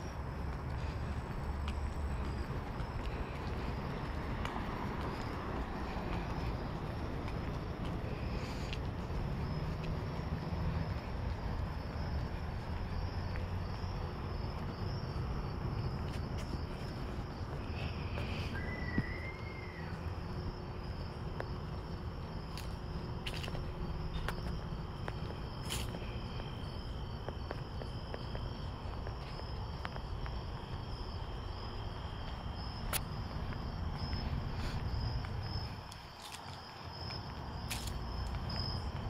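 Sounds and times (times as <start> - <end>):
crickets chirping: 0.0 - 39.0
low outdoor night rumble: 0.0 - 39.0.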